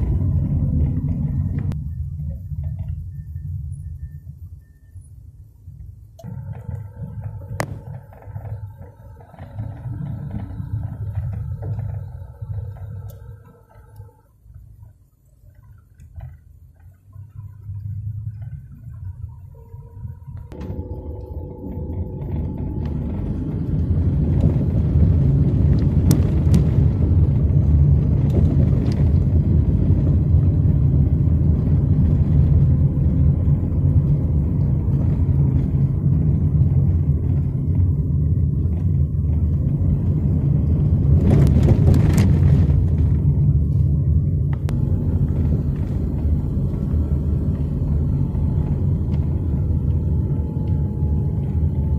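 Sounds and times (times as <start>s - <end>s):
car road and engine rumble: 0.0s - 51.9s.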